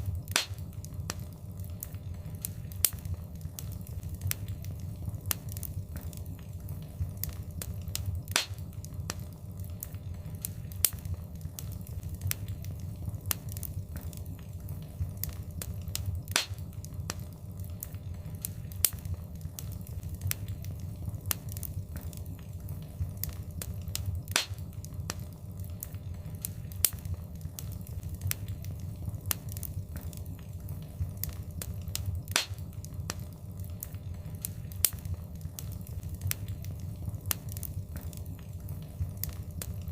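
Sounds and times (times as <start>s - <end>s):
flames rumbling: 0.0s - 39.9s
wood fire pops and snaps: 0.0s - 39.9s.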